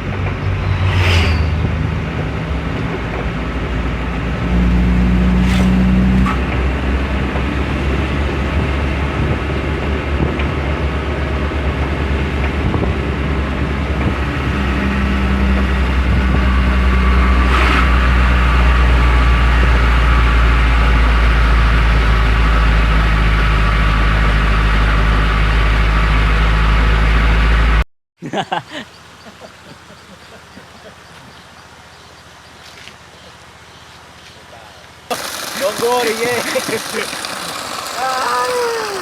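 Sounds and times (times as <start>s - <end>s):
truck engine rumbling: 0.0s - 27.8s, 28.9s - 39.0s.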